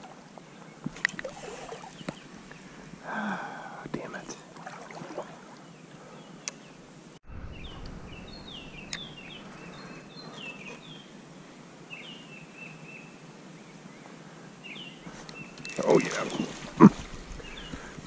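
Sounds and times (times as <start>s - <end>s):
outdoor noise: 0.0s - 18.0s
songbird chirping: 0.4s - 4.4s, 5.1s - 18.0s.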